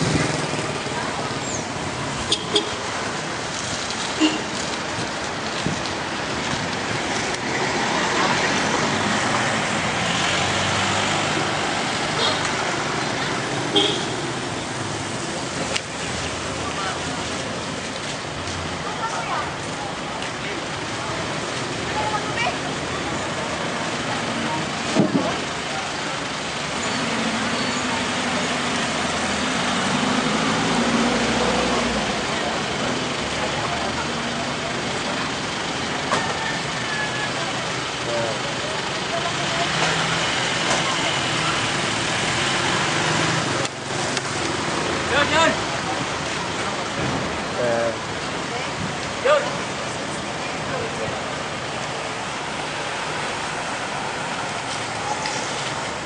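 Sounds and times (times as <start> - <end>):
motor vehicles passing: 0.0 - 56.0
road noise: 0.0 - 56.0.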